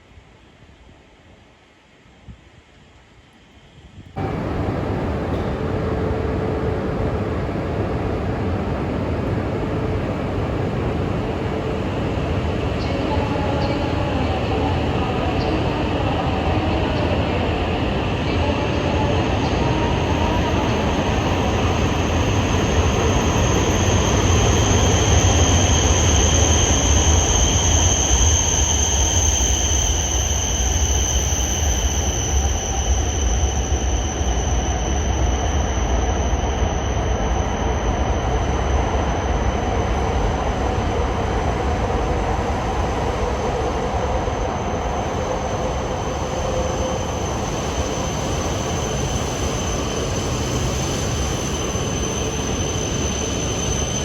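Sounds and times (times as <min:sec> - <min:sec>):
train low rumble: 0:03.8 - 0:54.0.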